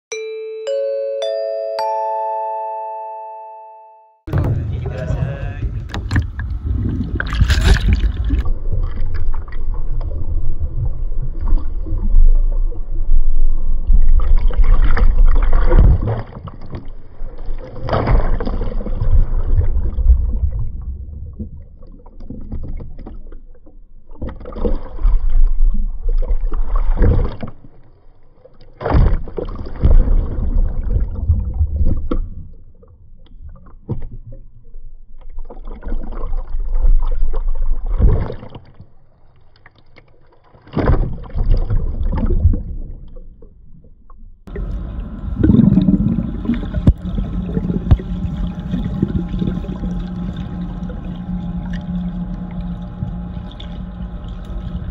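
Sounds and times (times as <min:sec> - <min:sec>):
muffled water churning and splashing: 0:04.3 - 0:54.9.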